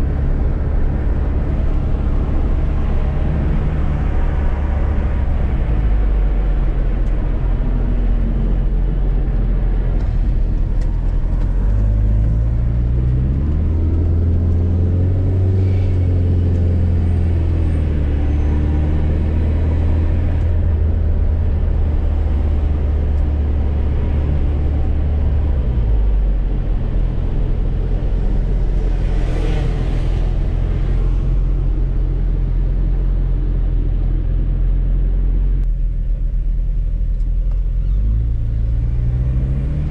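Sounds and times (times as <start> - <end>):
turbo engine accelerating hard: 0.0 - 39.9.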